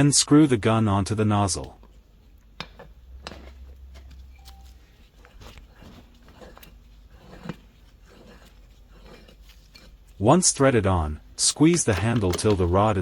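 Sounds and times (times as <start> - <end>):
light scraping of tool parts: 1.7 - 10.8, 11.4 - 13.0.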